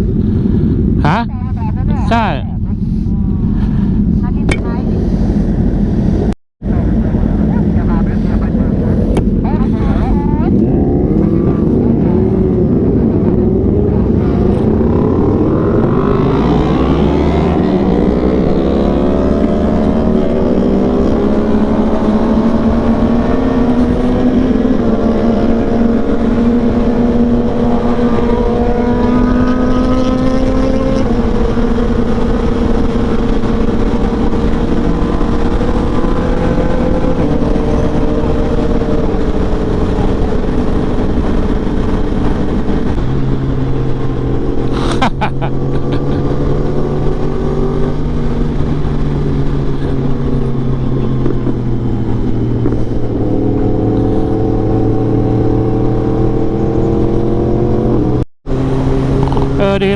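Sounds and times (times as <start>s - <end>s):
wind rumble on microphone: 0.0s - 59.9s
motorcycle engine revving: 6.7s - 59.9s.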